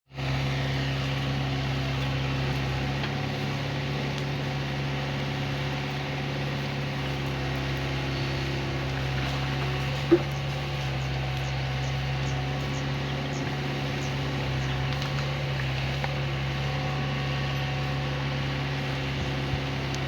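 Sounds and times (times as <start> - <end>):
excavator diesel engine running: 0.1 - 20.0.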